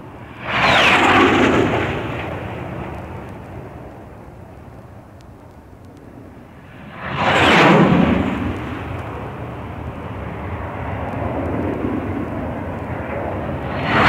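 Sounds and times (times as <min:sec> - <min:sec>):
jet fighters flying low past: 0:00.0 - 0:14.0.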